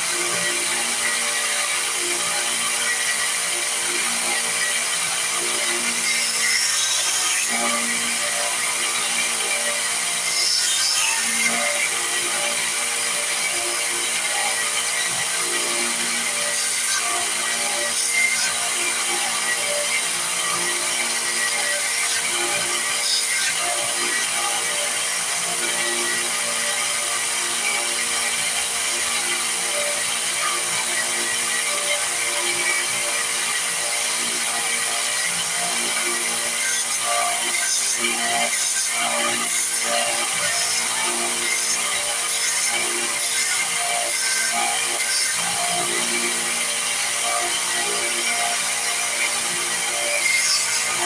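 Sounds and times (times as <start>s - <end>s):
power sander grinding wood: 0.0s - 51.0s.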